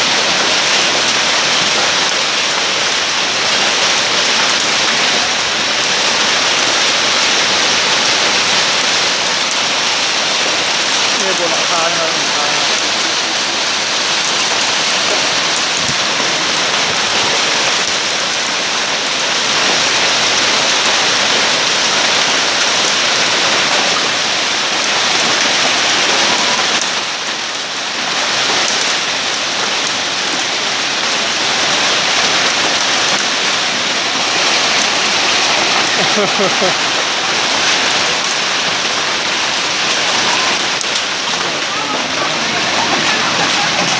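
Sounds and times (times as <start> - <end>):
hail and heavy rain on a roof: 0.0 - 43.9.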